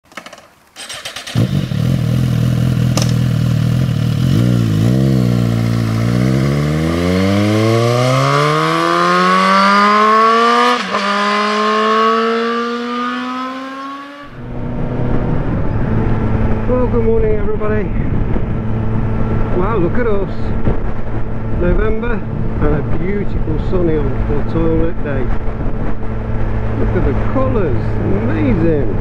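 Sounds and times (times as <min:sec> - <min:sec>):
motorcycle engine revving: 0:00.1 - 0:29.0.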